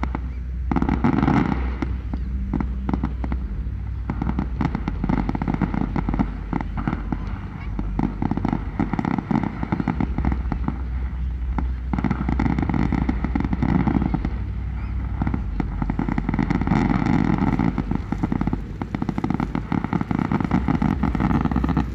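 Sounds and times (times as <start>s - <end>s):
fireworks crackling: 0.0s - 21.9s
low steady rumble: 0.0s - 21.9s.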